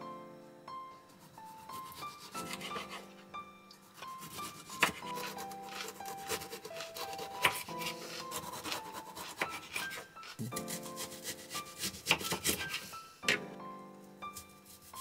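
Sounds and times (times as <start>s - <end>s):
background music with held notes: 0.0s - 15.0s
knife slicing vegetables: 1.2s - 3.1s, 3.9s - 13.5s, 14.3s - 15.0s.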